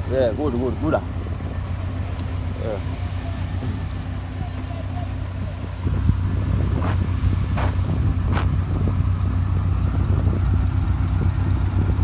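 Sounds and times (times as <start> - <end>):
heavy machinery engine drone: 0.0 - 12.0.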